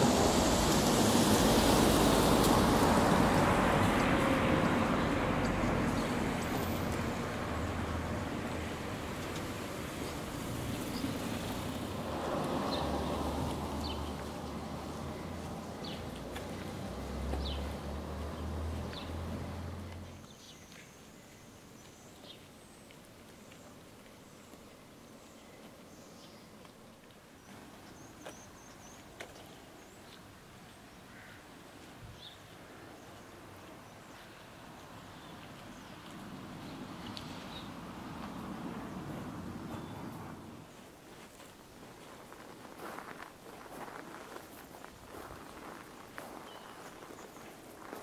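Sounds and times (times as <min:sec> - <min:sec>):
footsteps on wet pavement: 0:00.0 - 0:48.0.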